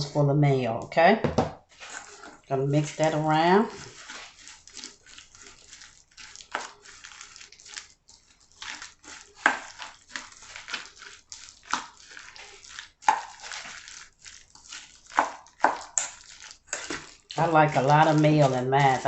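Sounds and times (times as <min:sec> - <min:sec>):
spoon stirring salad in bowl: 0:01.7 - 0:19.0.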